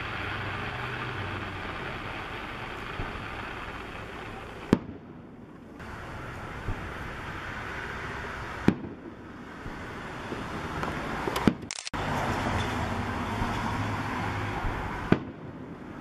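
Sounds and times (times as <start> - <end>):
fireworks bangs: 0.0 - 11.7, 13.2 - 16.0.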